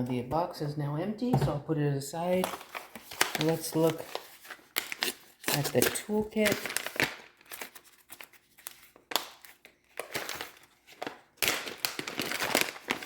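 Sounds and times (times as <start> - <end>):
packaging rustling and crinkling: 2.4 - 13.0.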